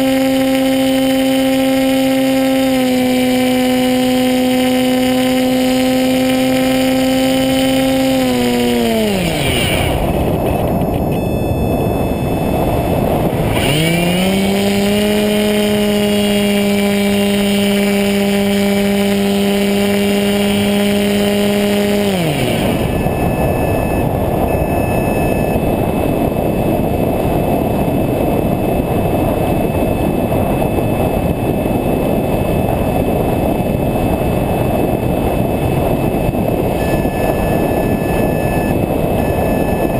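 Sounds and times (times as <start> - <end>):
model plane motor whine: 0.0 - 39.9
wind rushing over microphone: 0.0 - 39.9.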